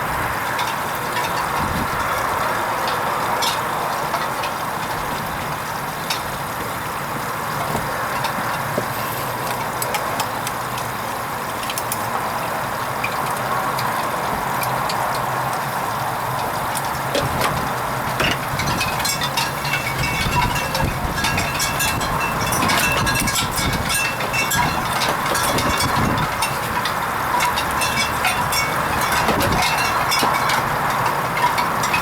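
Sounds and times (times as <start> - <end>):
washing machine rushing: 0.0 - 32.0.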